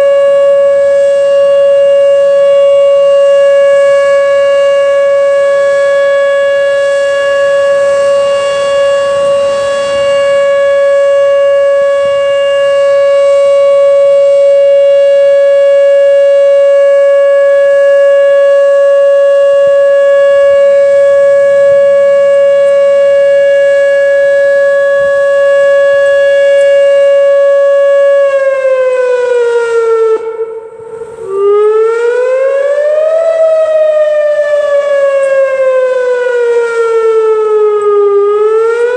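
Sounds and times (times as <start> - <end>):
tornado warning siren: 0.0 - 38.9.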